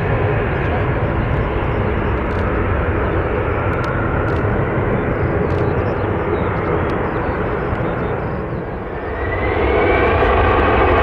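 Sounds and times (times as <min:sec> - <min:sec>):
jet engines running loud: 0:00.0 - 0:11.0.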